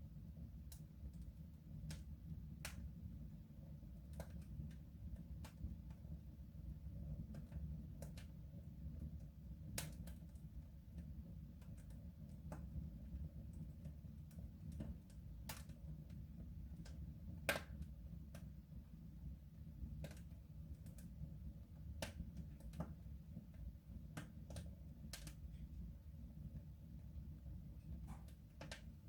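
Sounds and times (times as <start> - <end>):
wood fire crackling and popping: 0.6 - 18.8, 19.6 - 21.2, 21.8 - 25.8, 27.8 - 29.0.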